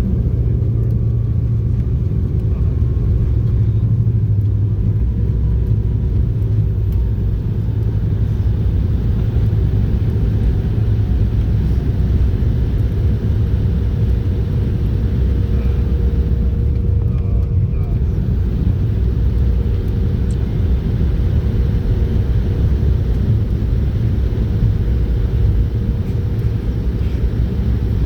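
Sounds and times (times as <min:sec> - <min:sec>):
aircraft cabin low rumble: 0:00.0 - 0:28.0.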